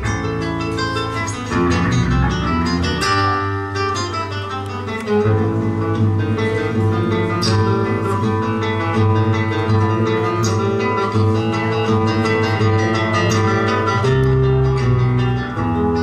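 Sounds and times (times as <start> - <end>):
classical guitar: 0.0 - 16.0
electric guitar: 0.0 - 16.0.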